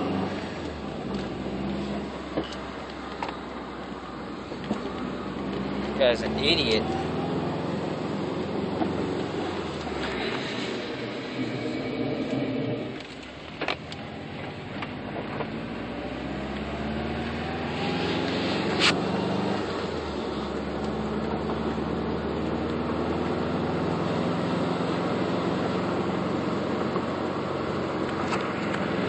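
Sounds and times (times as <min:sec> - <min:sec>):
car engine: 0:00.0 - 0:29.0
road noise: 0:00.0 - 0:29.0.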